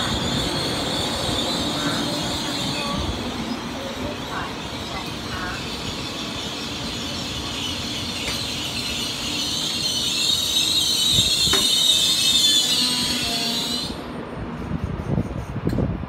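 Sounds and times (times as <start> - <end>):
high-pitched squeal: 0.0 - 14.1
train wheels rumbling on rails: 0.0 - 16.0.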